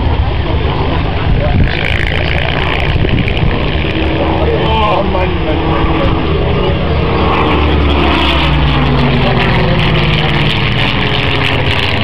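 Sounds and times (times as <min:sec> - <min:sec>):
piston aircraft engine overhead: 0:00.0 - 0:12.0.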